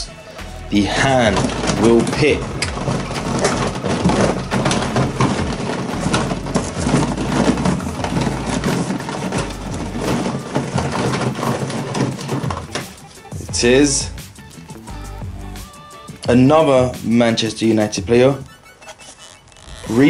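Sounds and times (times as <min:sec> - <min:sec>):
plastic packs crackling in a box: 0:00.4 - 0:13.5, 0:15.9 - 0:20.0.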